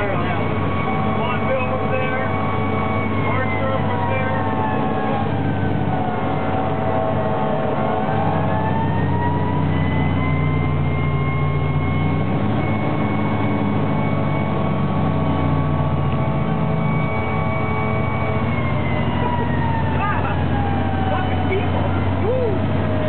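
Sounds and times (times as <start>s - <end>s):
fire engine droning: 0.0s - 23.0s
siren wailing: 0.0s - 23.0s.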